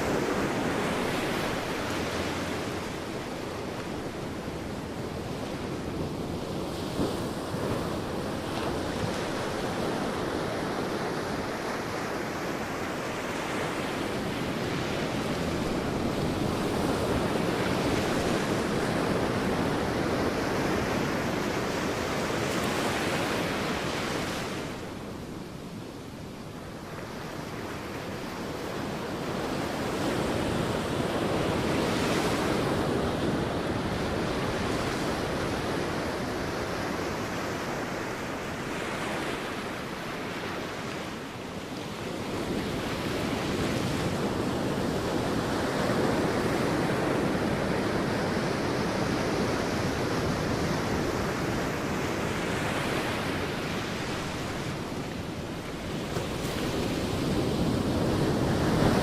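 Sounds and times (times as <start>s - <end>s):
sea waves washing onto beach: 0.0s - 59.0s.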